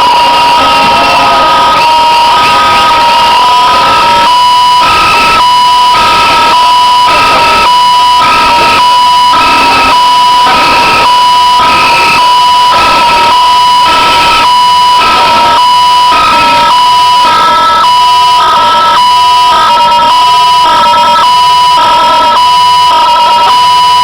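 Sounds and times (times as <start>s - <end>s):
two-tone alarm signal: 0.0s - 24.0s.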